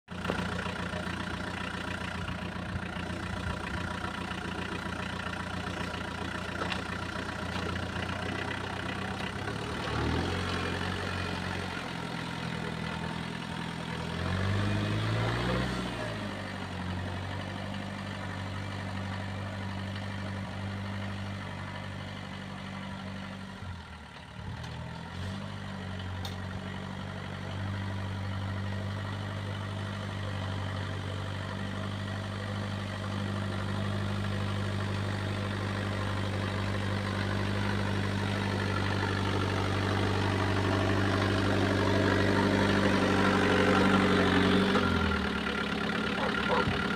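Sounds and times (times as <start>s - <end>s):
small tractor engine running: 0.1s - 46.9s.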